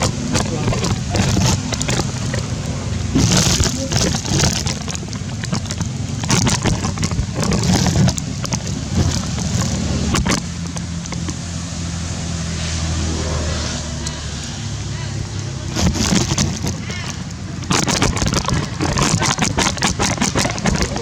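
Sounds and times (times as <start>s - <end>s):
crackles and rustling: 0.0s - 11.4s, 15.3s - 21.0s
low motor hum: 0.0s - 21.0s.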